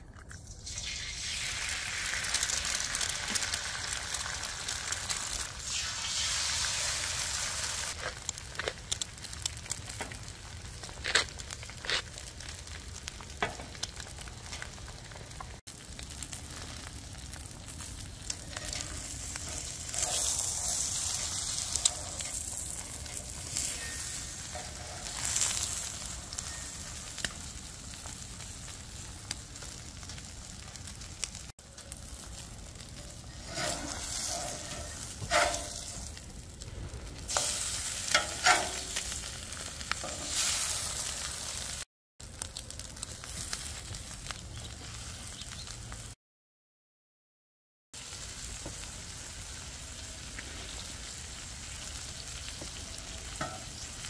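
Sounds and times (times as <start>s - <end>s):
food sizzling on griddle: 0.4s - 46.2s, 48.0s - 54.0s.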